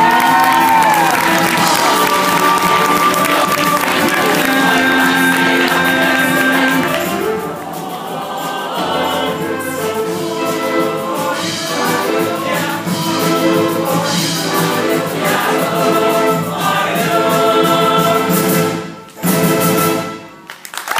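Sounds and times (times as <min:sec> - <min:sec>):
choir singing in harmony: 0:00.0 - 0:20.4
musical accompaniment: 0:00.0 - 0:20.9.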